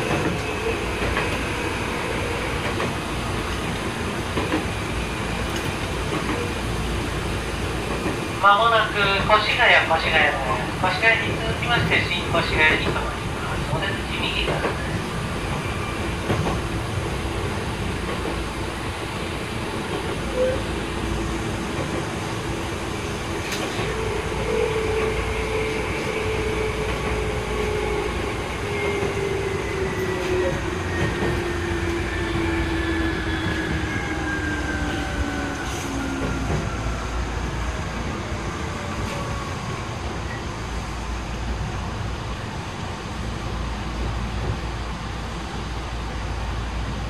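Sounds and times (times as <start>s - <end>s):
train rolling noise: 0.0s - 47.0s.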